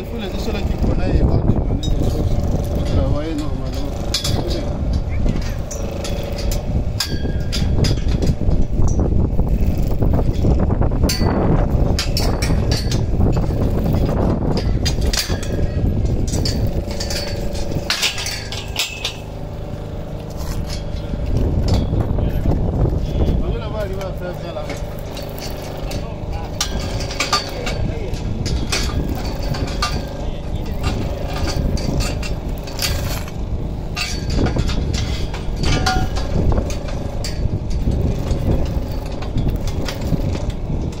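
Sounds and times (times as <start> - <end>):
heavy low rumble: 0.0 - 41.0
metal parts clinking and knocking: 0.0 - 41.0
steady droning hum: 0.0 - 41.0.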